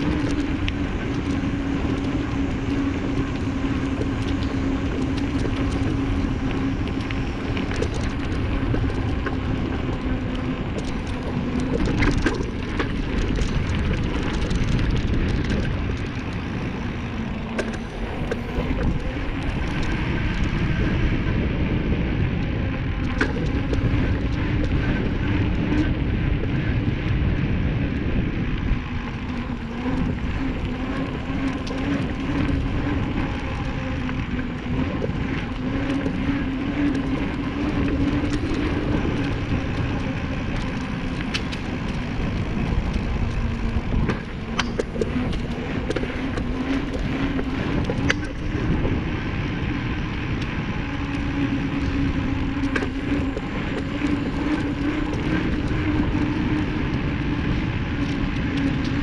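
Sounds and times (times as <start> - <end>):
bicycle clicks and rattles: 0.0 - 59.0
droning hum: 0.0 - 59.0
wind rumbling on microphone: 0.0 - 59.0.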